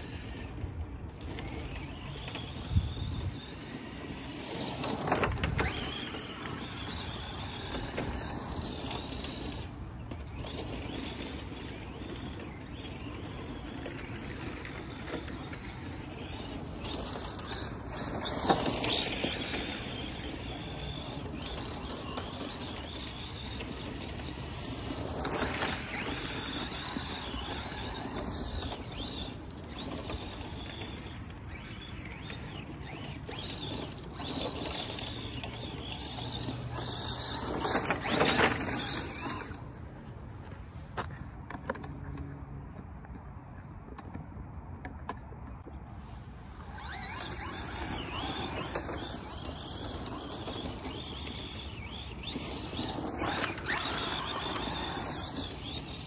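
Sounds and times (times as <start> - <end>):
electric motor whining: 0.0 - 39.8, 46.4 - 56.0
tyres scrabbling on loose dirt: 0.0 - 42.0, 46.0 - 56.0.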